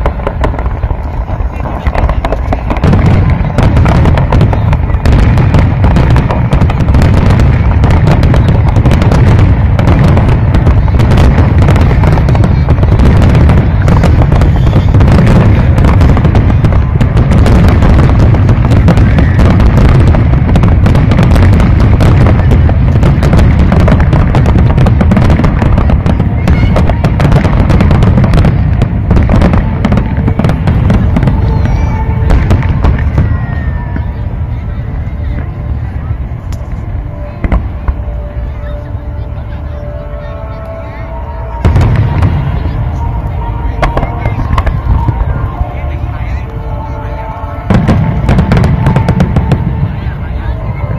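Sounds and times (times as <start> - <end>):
fireworks bursts and crackles: 0.0 - 50.9.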